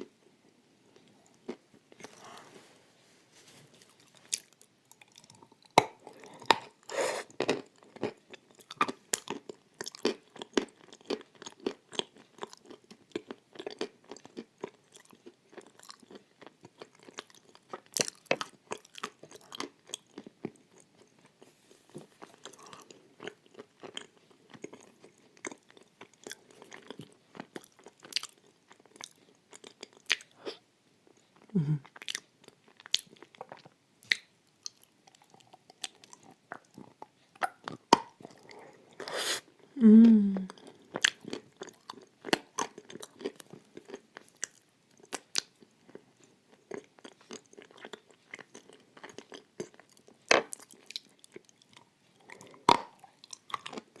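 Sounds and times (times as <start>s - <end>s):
crunching and chewing clay: 3.8s - 39.7s, 40.5s - 54.0s.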